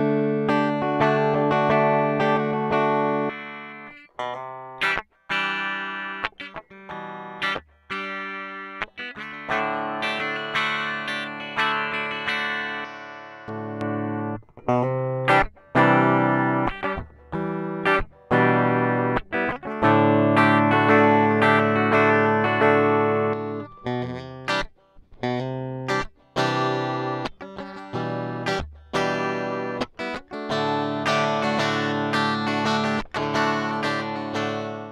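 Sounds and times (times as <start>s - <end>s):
electric guitar chords and stops: 0.0s - 34.9s.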